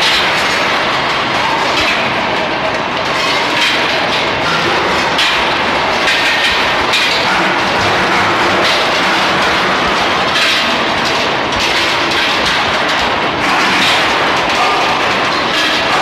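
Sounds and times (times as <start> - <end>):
loud machine noise: 0.0 - 16.0
sharp metallic clanks: 0.0 - 16.0
steel balls rattling and clanking: 0.0 - 16.0.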